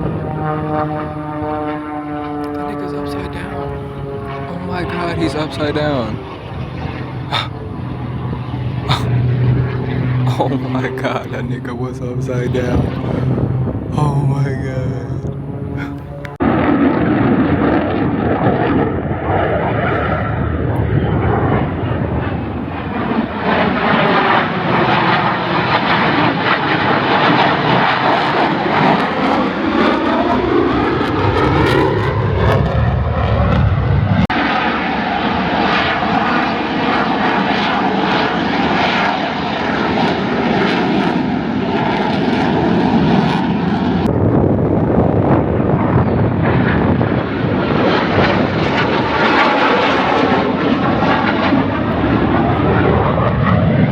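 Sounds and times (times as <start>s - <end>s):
aircraft engine overhead: 0.0s - 53.9s.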